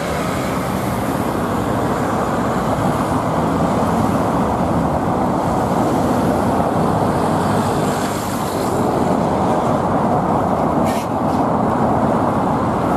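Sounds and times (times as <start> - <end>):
heavy street traffic: 0.0 - 12.9.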